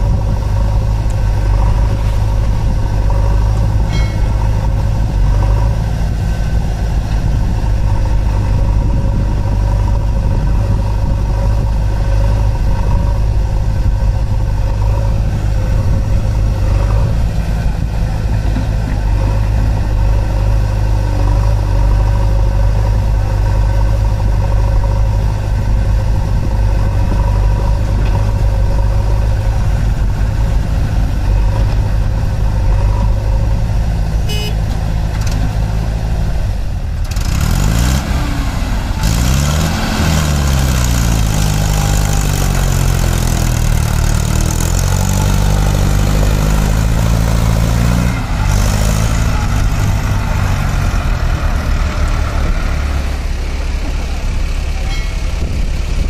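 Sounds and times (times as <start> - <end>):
tractor diesel engine idling and revving: 0.0 - 56.0.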